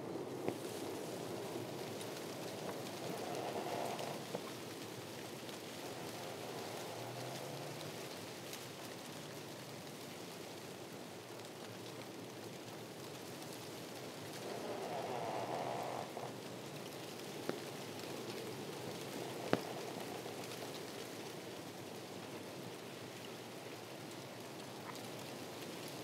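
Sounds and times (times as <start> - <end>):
wind through palm fronds: 0.0 - 26.0.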